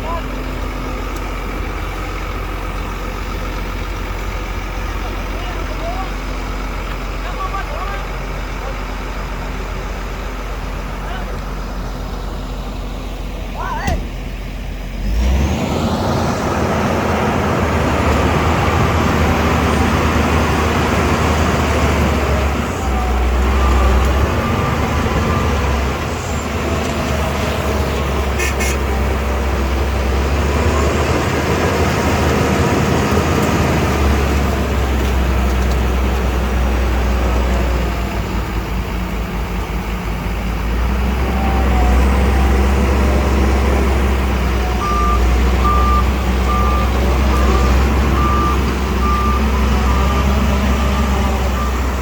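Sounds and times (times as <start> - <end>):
bulldozer diesel engine drone: 0.0 - 52.0.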